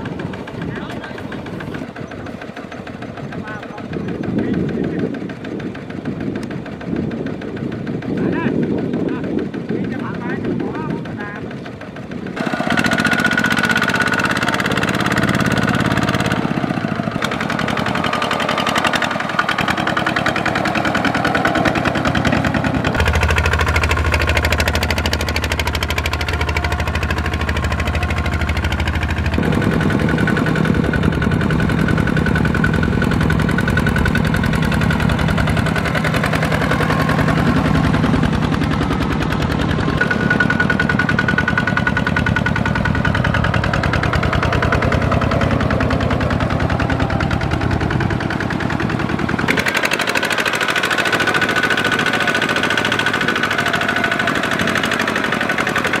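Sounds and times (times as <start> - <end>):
diesel tractor engine chugging: 0.0 - 56.0.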